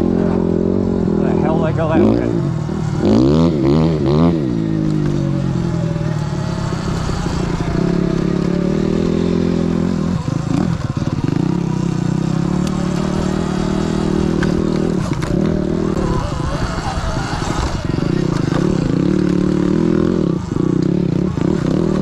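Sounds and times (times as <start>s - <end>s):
electric dirt bike motor running: 1.4s - 22.0s.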